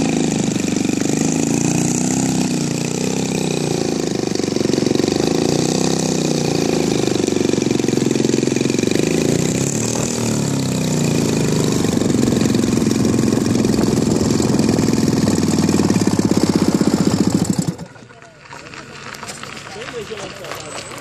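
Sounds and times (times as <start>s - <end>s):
model plane engine running: 0.0s - 17.8s.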